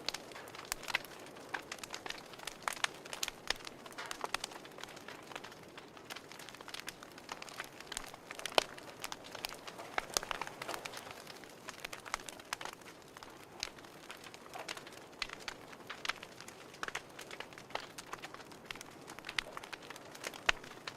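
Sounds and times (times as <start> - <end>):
fire crackling: 0.0 - 20.9.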